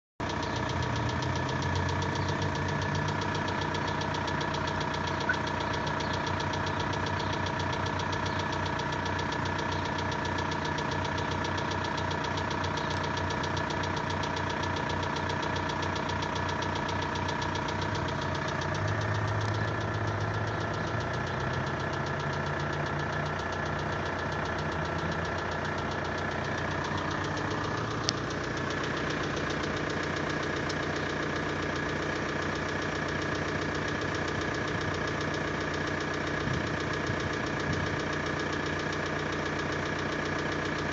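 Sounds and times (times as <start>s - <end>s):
diesel engine running: 0.2s - 40.9s
rhythmic engine knock: 0.2s - 40.9s
sharp clicks: 0.2s - 40.9s.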